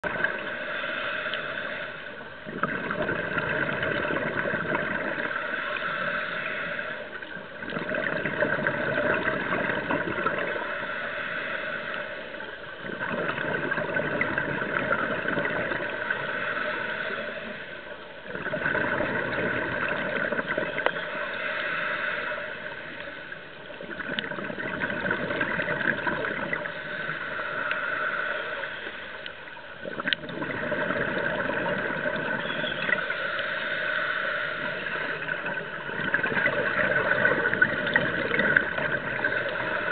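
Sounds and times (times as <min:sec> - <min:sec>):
regulator bubbling exhalations: 0:02.4 - 0:07.0, 0:07.6 - 0:11.7, 0:12.8 - 0:17.6, 0:18.2 - 0:27.8, 0:29.8 - 0:39.9.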